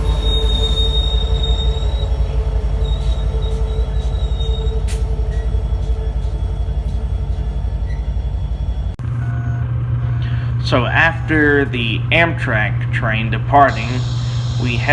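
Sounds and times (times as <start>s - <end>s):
wheel squeal: 0.0s - 12.3s
train rumbling: 0.0s - 14.9s.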